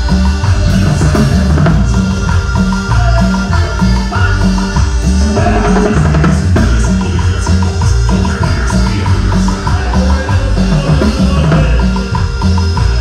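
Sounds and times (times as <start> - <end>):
live band playing dance rhythm: 0.0 - 13.0.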